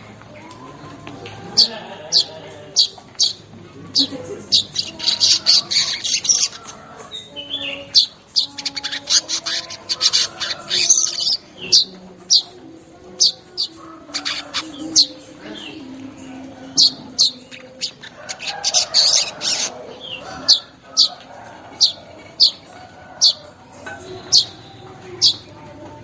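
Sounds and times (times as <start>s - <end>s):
bird rapid chattering: 1.6s - 12.6s, 13.2s - 15.8s, 16.6s - 25.5s
bird chirping: 1.6s - 25.6s.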